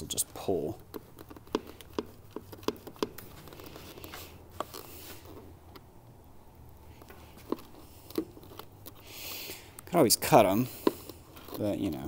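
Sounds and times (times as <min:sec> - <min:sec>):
pliers scraping: 0:00.8 - 0:05.9, 0:07.0 - 0:12.0.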